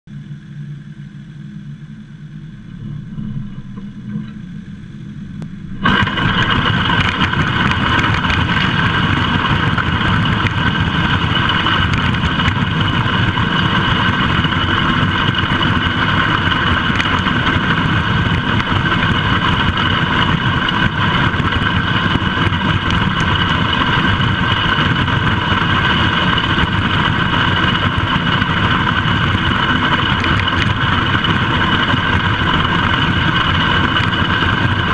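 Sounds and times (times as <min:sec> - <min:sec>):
tractor engine running: 0:00.1 - 0:34.9
steel drag scraping over gravel: 0:05.6 - 0:34.9.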